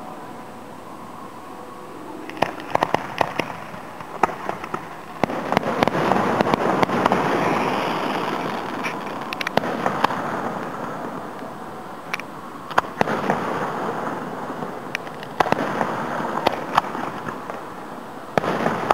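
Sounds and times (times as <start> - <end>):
continuous firework rumble: 0.0 - 18.9
distant fireworks bangs: 2.2 - 18.9.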